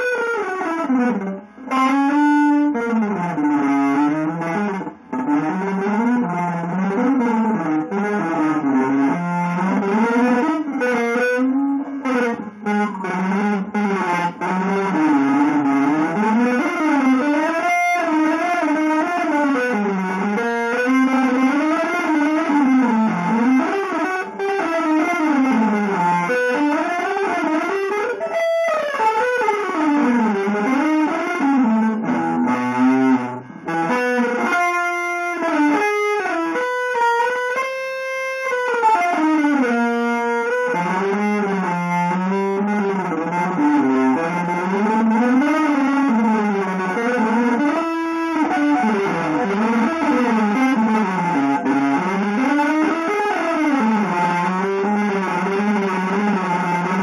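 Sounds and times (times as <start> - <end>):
electric guitar sliding bending line: 0.0 - 57.0.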